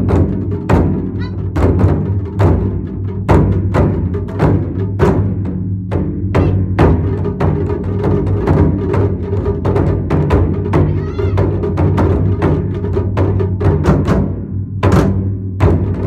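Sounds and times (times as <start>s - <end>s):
ensemble drumming: 0.0s - 16.0s
large drums booming: 0.0s - 16.0s.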